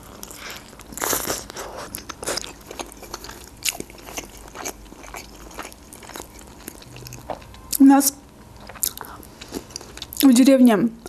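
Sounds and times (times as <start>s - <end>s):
close chewing: 0.0s - 7.8s, 8.6s - 10.3s.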